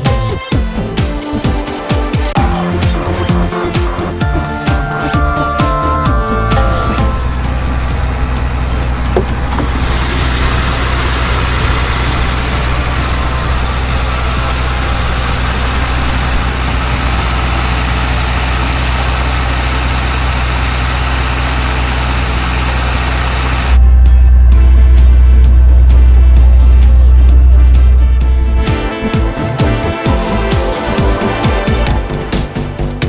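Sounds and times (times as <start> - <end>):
car engine idling: 2.3 - 32.2.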